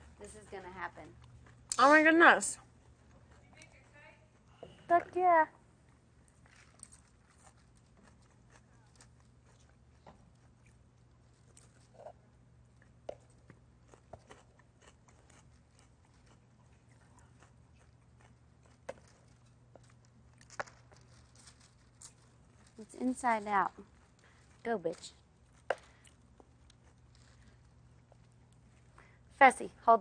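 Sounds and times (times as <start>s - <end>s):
faint low hum: 0.0s - 30.0s.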